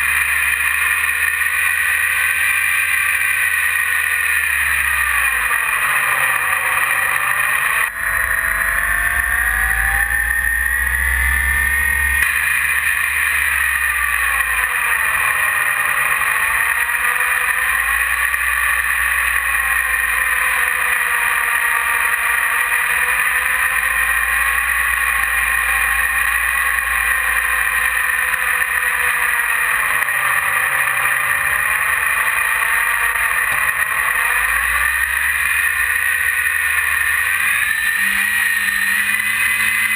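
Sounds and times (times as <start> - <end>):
electric motor and propeller whining: 0.0 - 39.9.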